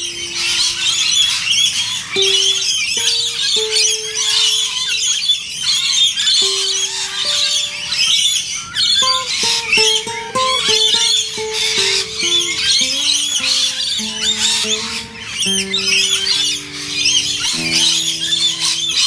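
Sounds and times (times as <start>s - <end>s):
classical guitar plucked notes: 0.0s - 19.0s.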